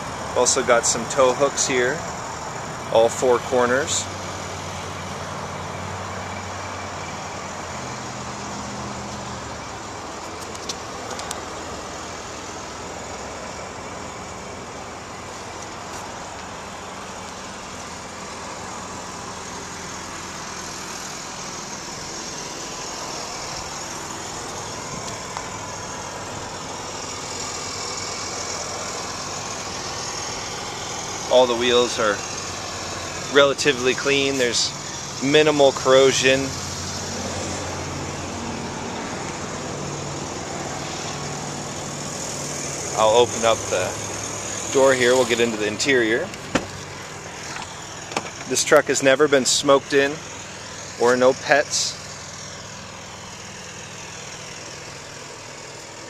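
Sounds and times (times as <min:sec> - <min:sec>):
engine running: 0:00.0 - 0:56.0
traffic hum: 0:00.0 - 0:56.0.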